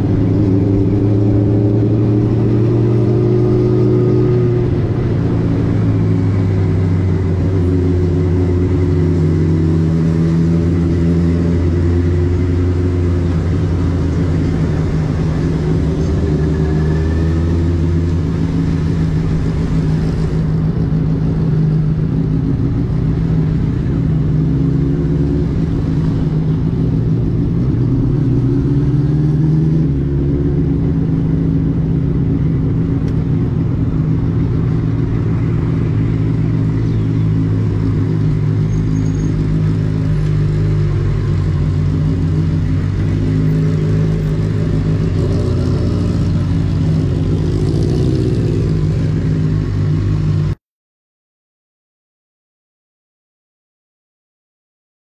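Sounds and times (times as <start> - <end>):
motorcycle engine running: 0.0 - 50.6.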